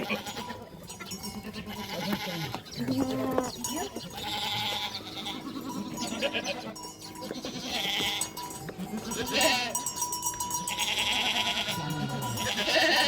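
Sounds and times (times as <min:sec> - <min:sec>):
faint steady ringing: 0:00.0 - 0:02.4, 0:03.4 - 0:13.0
goats bleating: 0:00.0 - 0:13.0.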